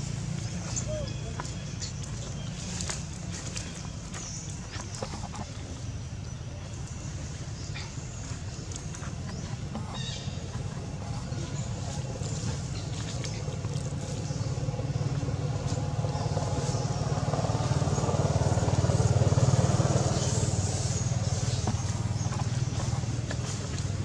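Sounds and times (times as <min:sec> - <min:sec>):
vehicle engine passing by: 0:00.0 - 0:07.5, 0:08.2 - 0:24.0.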